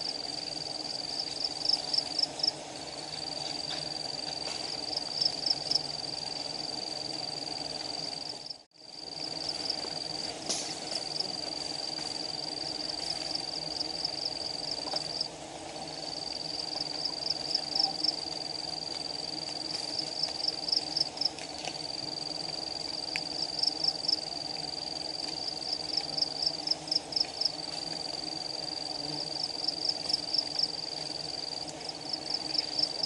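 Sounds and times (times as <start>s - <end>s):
bee colony humming: 0.0s - 33.0s
high-pitched insect call: 0.0s - 33.0s.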